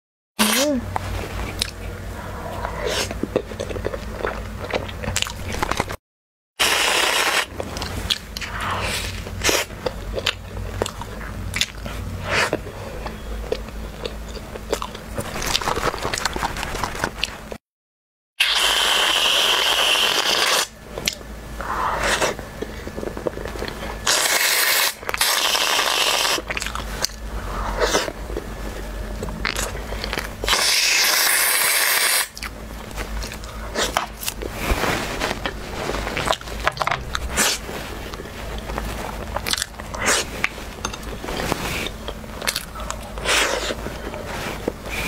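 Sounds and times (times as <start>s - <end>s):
biting and chewing soft pastry: 0.4s - 6.0s, 6.6s - 17.6s, 18.4s - 45.0s.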